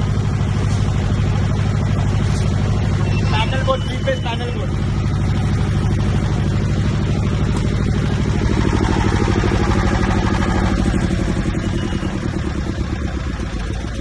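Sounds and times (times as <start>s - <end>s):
diesel generator running: 0.0s - 14.0s.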